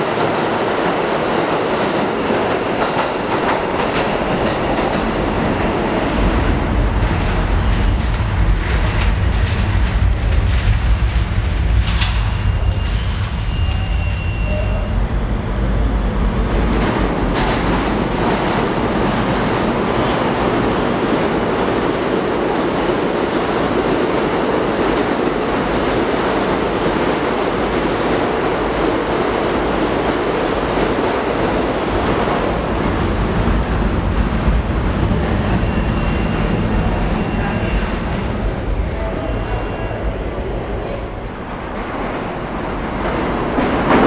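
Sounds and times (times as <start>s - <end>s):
subway train wheels on rail: 0.0s - 44.0s.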